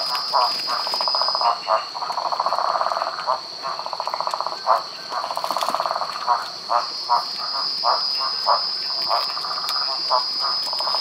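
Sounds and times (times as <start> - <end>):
high-pitched drone: 0.0 - 3.6, 4.5 - 11.0
frogs croaking: 0.0 - 11.0.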